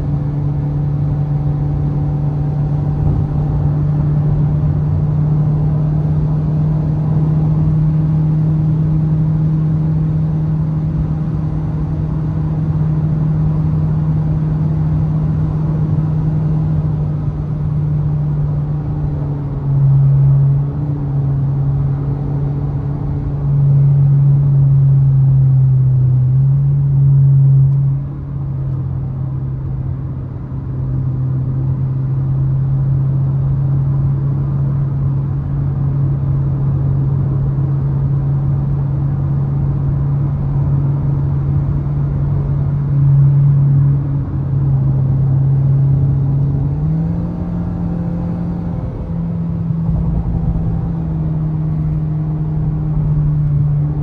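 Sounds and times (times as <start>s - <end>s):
car engine droning: 0.0s - 54.0s
road noise: 0.0s - 54.0s.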